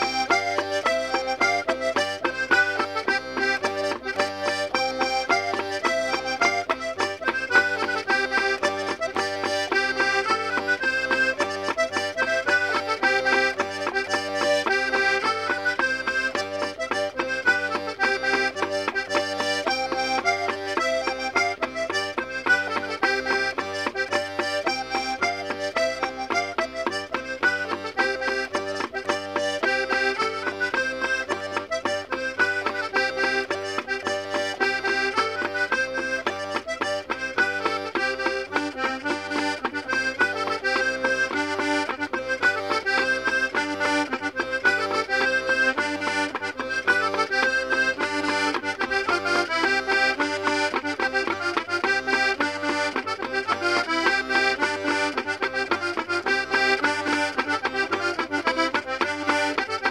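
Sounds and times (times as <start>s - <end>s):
accordion folk melody: 0.0s - 59.9s.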